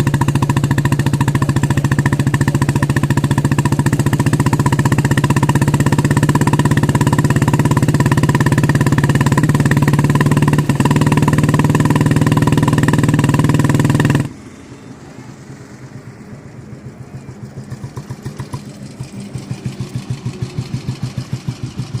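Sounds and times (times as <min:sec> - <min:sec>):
motorcycle engine pulsing exhaust: 0:00.0 - 0:22.0.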